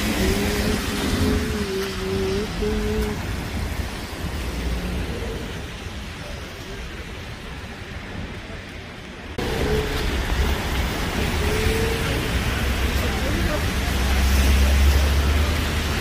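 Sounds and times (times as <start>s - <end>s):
low traffic rumble: 0.0s - 16.0s
tyres hissing on wet pavement: 0.0s - 16.0s.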